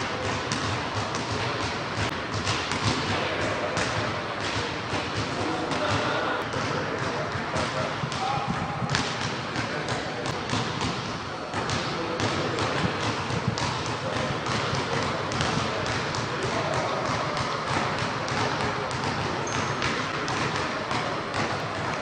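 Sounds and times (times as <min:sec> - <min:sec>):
basketball dribbling on hardwood: 0:00.1 - 0:05.3, 0:06.6 - 0:22.0.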